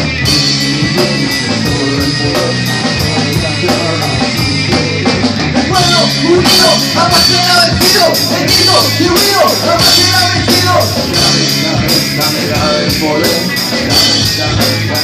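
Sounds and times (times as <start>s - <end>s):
drum kit with cymbal hits: 0.0s - 15.0s
electric guitar: 0.0s - 15.0s.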